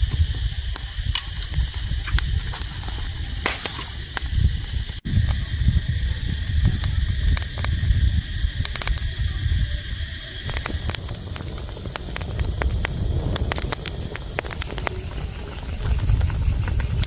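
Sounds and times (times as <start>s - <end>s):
low rumble: 0.0s - 17.0s
sharp crackles and snaps: 0.0s - 17.0s.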